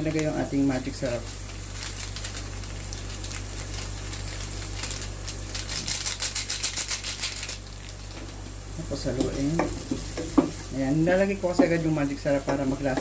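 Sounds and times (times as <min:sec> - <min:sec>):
onions sizzling in a frying pan: 0:00.0 - 0:06.0, 0:07.3 - 0:13.0.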